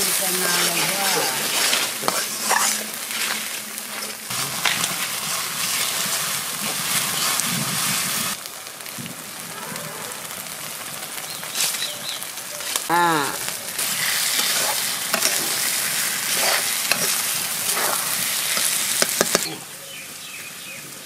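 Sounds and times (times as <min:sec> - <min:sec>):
masala sizzling and crackling: 0:00.0 - 0:21.0.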